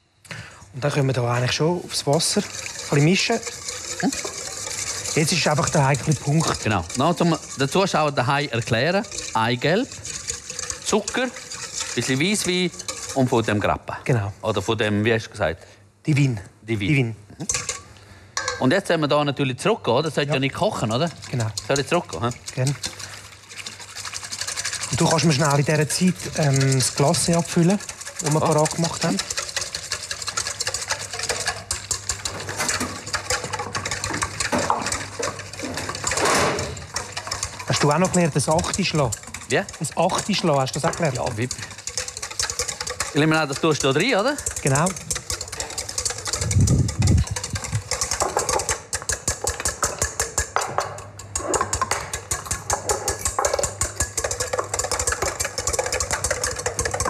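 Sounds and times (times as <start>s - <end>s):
whisk beating in metal bowl: 0.8s - 13.8s, 17.4s - 17.8s, 20.1s - 57.0s.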